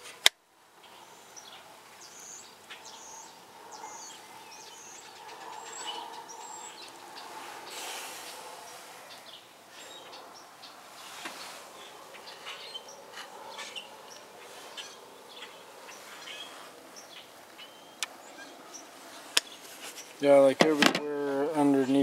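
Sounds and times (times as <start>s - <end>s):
faint background hiss: 0.0s - 22.0s.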